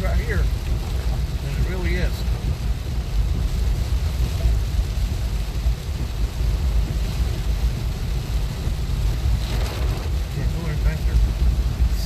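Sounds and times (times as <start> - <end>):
car and tyres rumbling on wet road: 0.0 - 12.0
rain hissing on car: 0.0 - 12.0.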